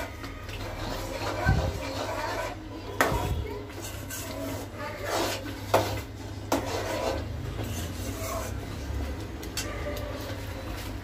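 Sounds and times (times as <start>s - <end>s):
metal spoon scraping a steel pan: 0.0s - 10.5s.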